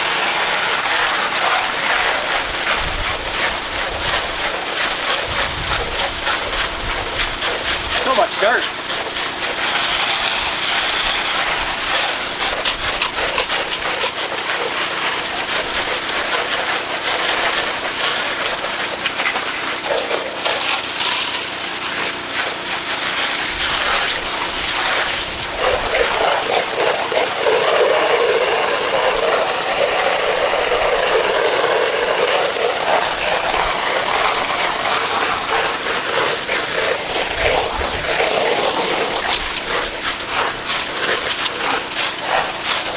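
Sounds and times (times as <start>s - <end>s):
pressure washer spraying: 0.0s - 42.9s.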